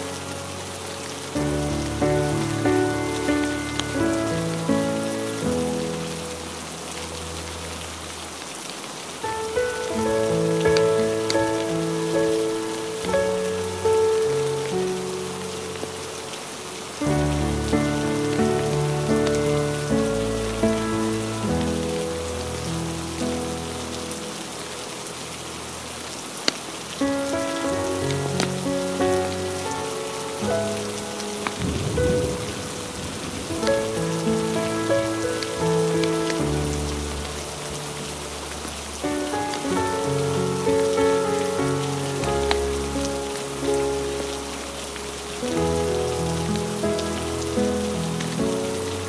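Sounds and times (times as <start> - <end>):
fireplace crackles: 0.0 - 49.0
soft slow melodic music: 0.0 - 49.0
steady rain falling: 0.0 - 49.0.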